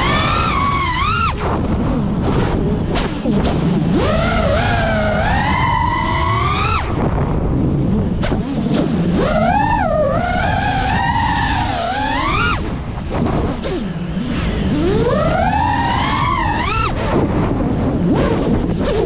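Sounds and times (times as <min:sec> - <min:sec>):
drone motors whining: 0:00.0 - 0:19.0
wind rushing over microphone: 0:00.0 - 0:19.0.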